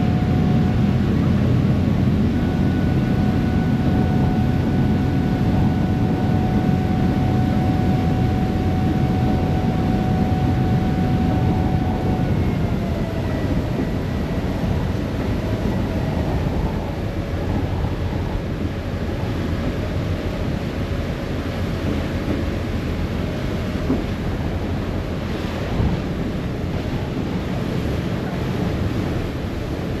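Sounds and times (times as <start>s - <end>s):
low engine rumble: 0.0s - 30.0s
water washing past hull: 0.0s - 30.0s
wind noise on microphone: 0.0s - 30.0s.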